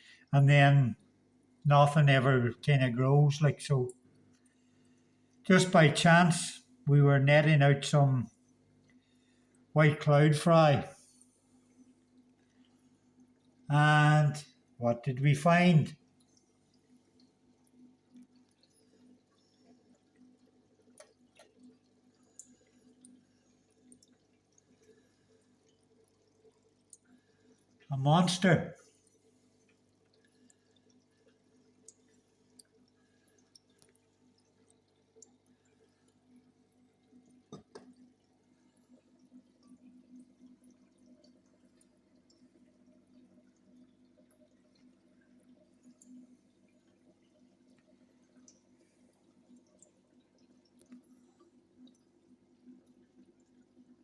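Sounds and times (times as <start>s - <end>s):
soft drips or ticks: 0.0s - 54.0s.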